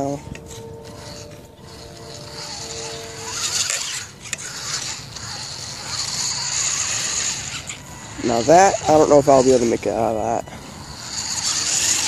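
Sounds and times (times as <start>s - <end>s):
toy truck motors whirring: 0.0s - 12.0s.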